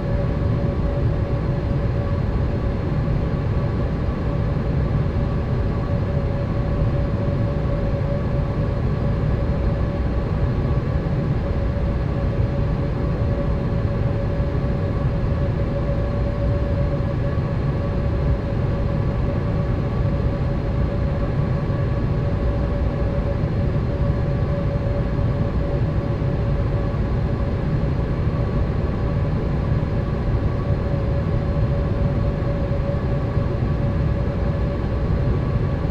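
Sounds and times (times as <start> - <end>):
constant hum-like tone: 0.0 - 35.9
jet engine and airflow rumble: 0.0 - 35.9.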